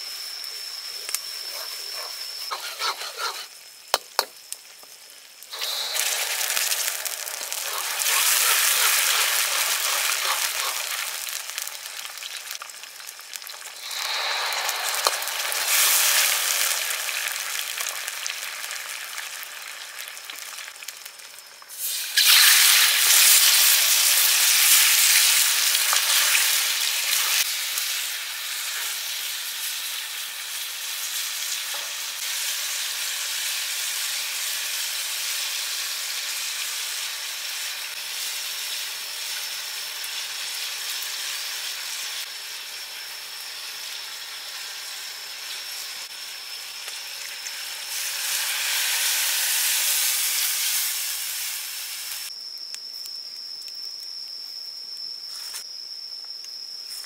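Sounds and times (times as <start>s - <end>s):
sauce sizzling in hot oil: 0.0s - 52.7s.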